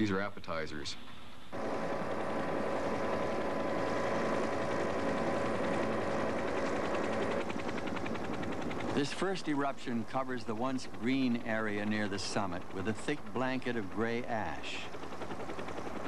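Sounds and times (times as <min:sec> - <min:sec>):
helicopter engine and rotor: 0:01.0 - 0:16.0.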